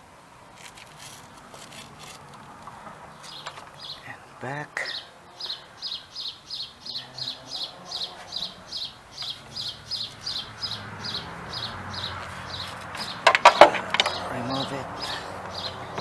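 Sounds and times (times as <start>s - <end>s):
bird chirping: 1.8s - 16.0s.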